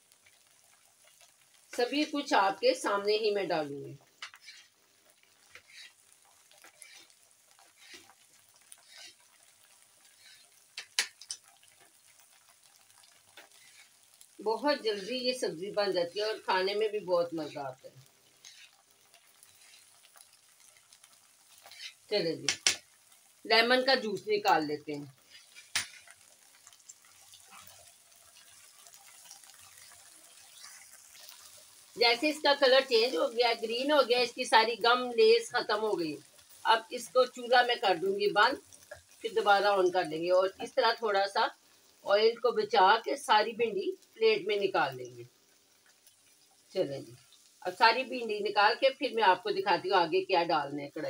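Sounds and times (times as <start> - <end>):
small crackles: 0.0 - 49.9
okra sizzling in oil: 0.0 - 51.0.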